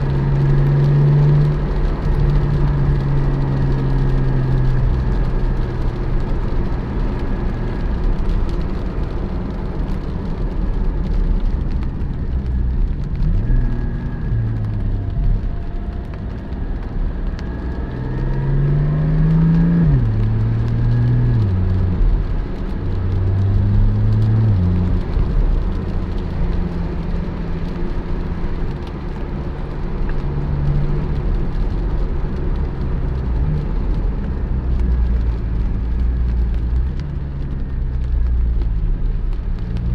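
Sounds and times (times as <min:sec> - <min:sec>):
car engine accelerating: 0:00.0 - 0:39.9
road and tyre rumble: 0:00.0 - 0:39.9.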